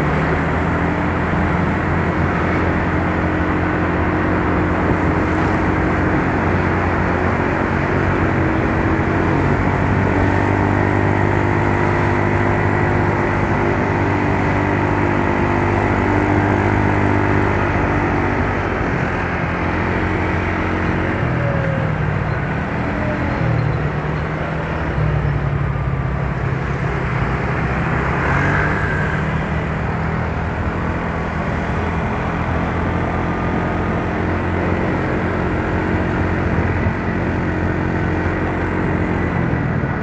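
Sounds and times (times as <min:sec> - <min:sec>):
scooter engine running: 0:00.0 - 0:40.0.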